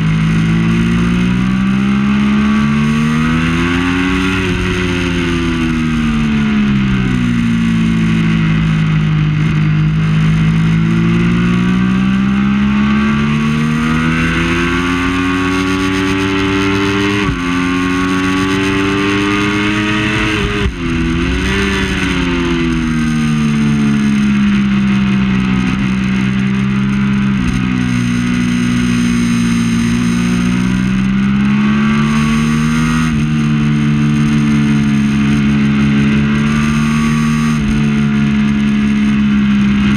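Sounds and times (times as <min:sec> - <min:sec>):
motorcycle engine at racing speed: 0:00.0 - 0:39.9.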